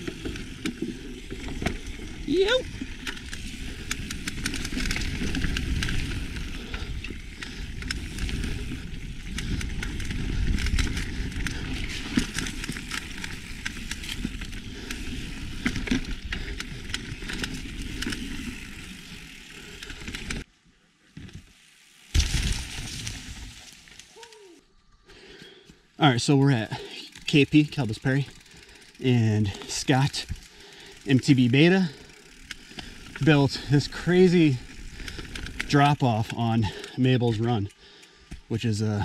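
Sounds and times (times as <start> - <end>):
bike rattling: 0.0 - 24.2, 26.1 - 39.0.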